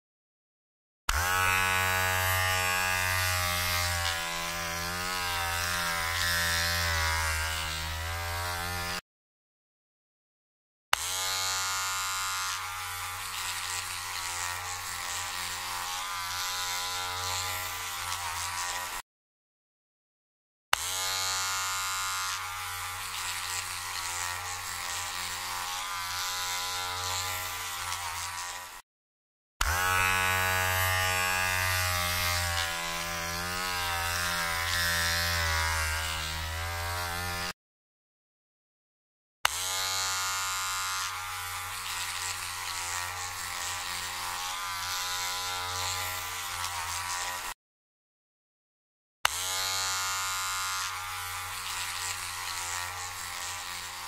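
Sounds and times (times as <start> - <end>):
electric hair trimmer buzzing: 1.1 - 9.0, 10.9 - 19.0, 20.7 - 28.8, 29.6 - 37.6, 39.4 - 47.6, 49.2 - 54.0.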